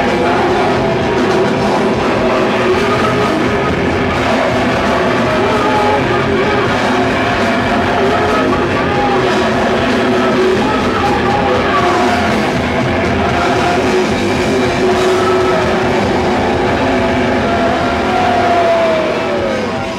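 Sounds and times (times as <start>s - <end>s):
live heavy band with distortion: 0.0s - 19.9s.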